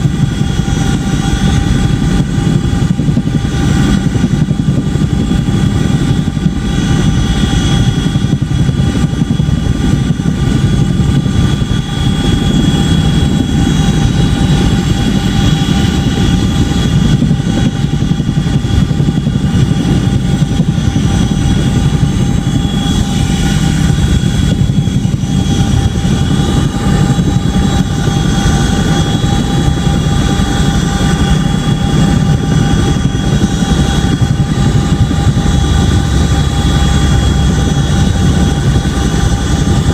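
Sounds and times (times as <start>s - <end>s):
helicopter rotors beating: 0.0s - 39.9s
turbine engine whine: 0.0s - 39.9s.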